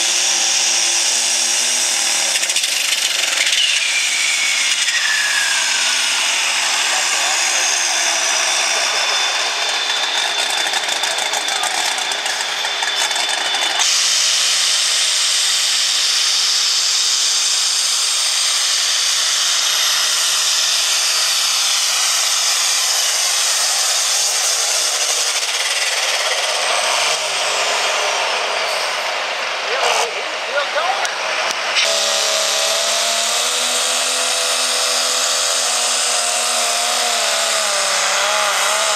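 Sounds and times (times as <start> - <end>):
diesel tractor engine drone: 0.0 - 38.9
turbocharger whine: 0.0 - 38.9.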